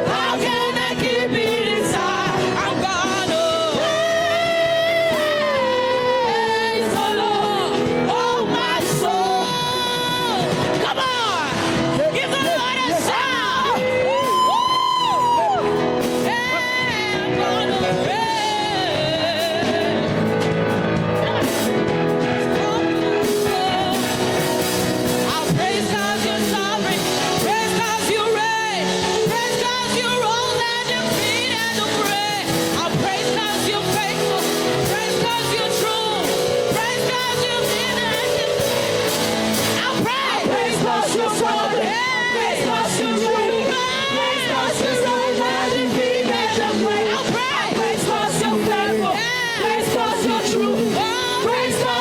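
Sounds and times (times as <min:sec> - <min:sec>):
band accompaniment: 0:00.0 - 0:52.0
person singing with vibrato: 0:00.0 - 0:52.0.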